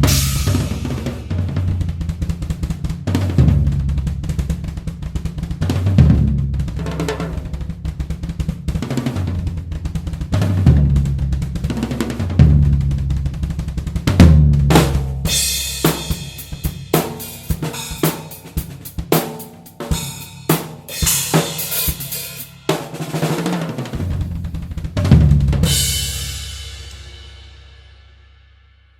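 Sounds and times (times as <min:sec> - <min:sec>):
drum kit playing: 0:00.0 - 0:28.3.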